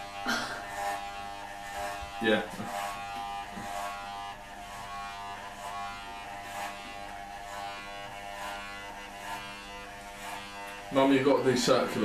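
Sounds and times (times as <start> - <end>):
electric hair clippers humming: 0.0 - 12.0.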